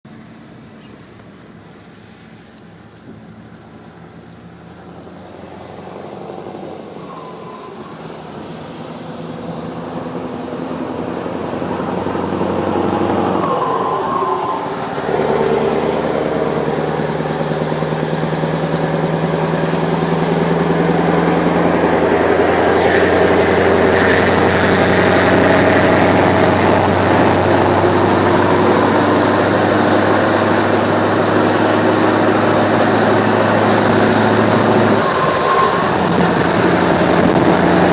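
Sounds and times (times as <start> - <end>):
truck diesel engine droning: 0.1 - 37.9.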